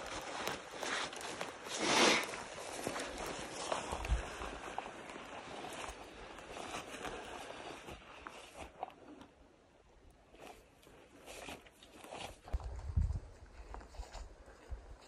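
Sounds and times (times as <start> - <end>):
footsteps on rough ground: 0.0 - 9.4, 10.2 - 15.0.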